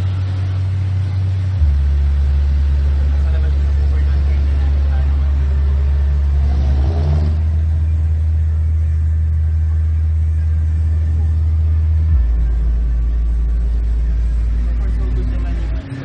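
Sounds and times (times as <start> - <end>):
subwoofer playing deep bass notes: 0.0 - 16.0.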